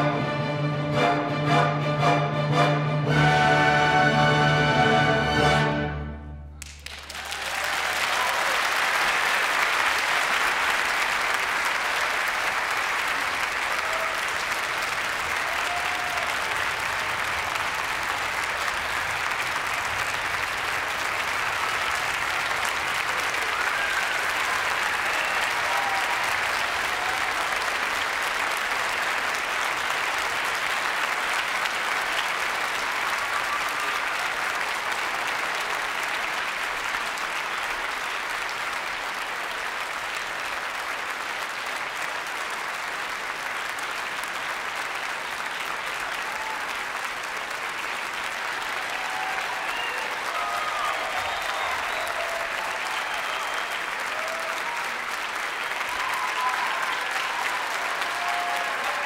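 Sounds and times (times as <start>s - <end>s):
audience applauding: 6.6s - 59.0s.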